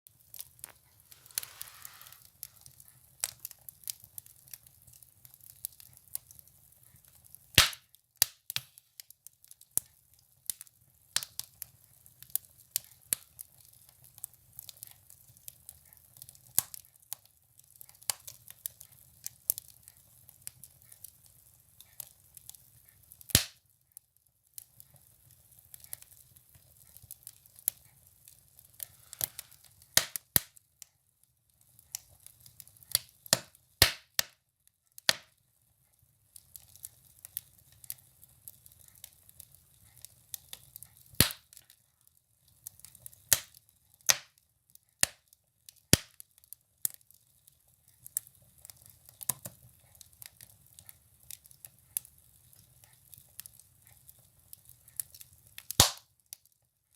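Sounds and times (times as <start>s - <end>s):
firewood crackling and popping: 0.1s - 56.7s.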